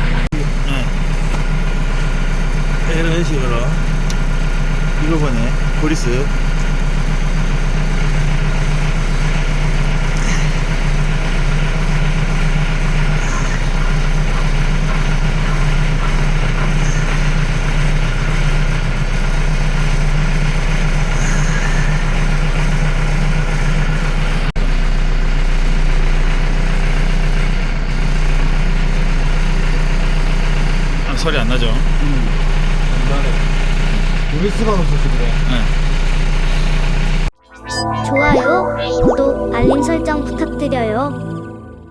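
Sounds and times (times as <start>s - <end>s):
tractor diesel engine idling: 0.0s - 37.3s.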